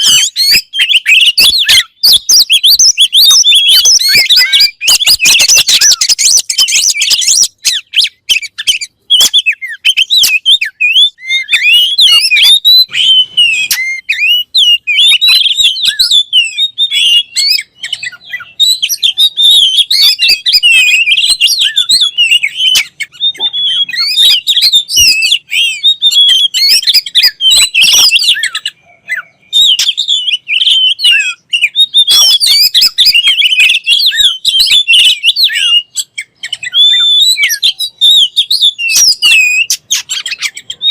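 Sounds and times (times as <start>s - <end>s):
songbird chirping and whistling: 0.0s - 40.9s.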